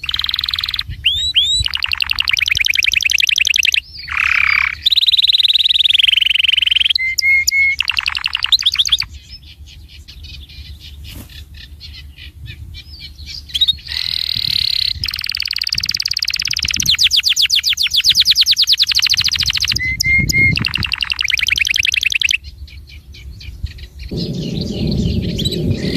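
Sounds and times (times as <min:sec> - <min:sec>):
songbird trilling and whistling: 0:00.0 - 0:25.9.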